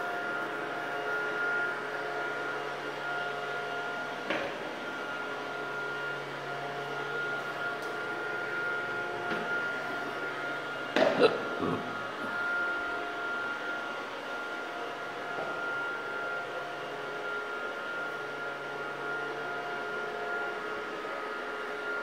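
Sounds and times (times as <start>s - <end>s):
fan whirring with high tone: 0.0s - 22.0s.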